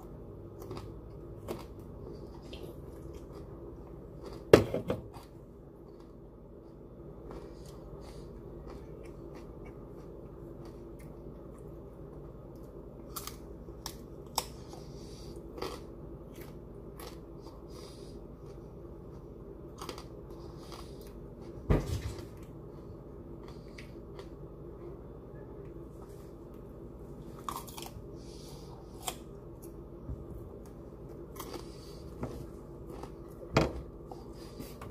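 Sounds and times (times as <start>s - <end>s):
chewing crunchy broccoli: 0.0s - 24.7s, 25.9s - 34.8s
low hum: 0.0s - 34.9s.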